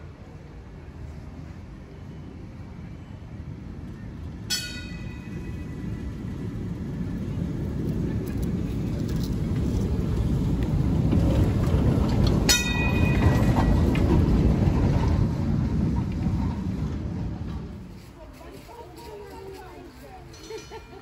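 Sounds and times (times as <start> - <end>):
tram rumbling past on rails: 0.0 - 21.0.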